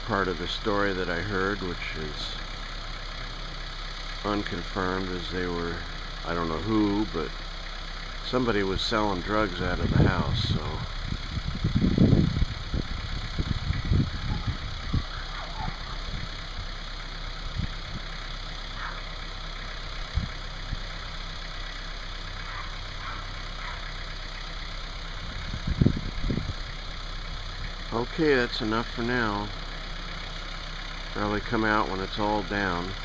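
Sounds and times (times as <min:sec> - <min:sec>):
demolition machine engine running: 0:00.0 - 0:33.0.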